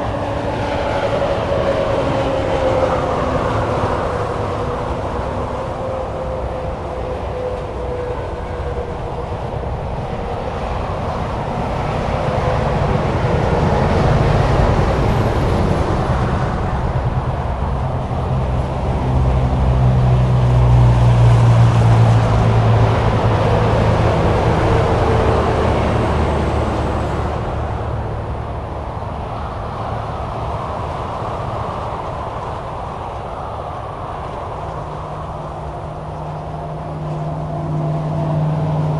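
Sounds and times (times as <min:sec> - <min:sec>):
heavy vehicle engine drone: 0:00.0 - 0:38.9
highway traffic roar: 0:00.0 - 0:38.9.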